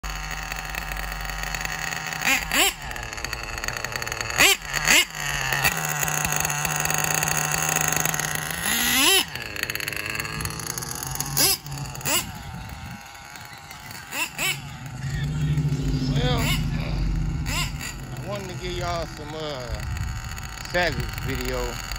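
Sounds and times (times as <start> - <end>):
engine throttle blips: 0.0 - 21.9
nitro engine whining: 0.0 - 21.9.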